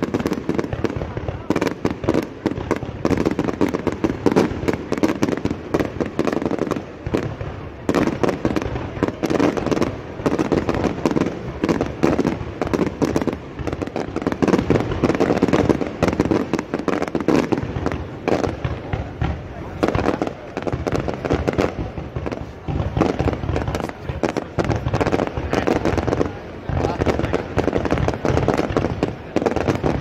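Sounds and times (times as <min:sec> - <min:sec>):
fireworks cracks and pops: 0:00.0 - 0:30.0.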